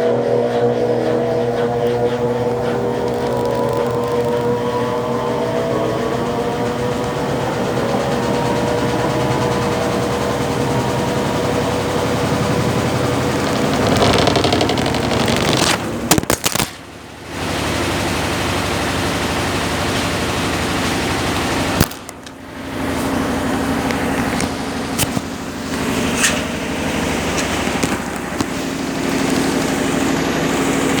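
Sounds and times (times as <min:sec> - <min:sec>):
washing machine motor hum: 0:00.0 - 0:31.0.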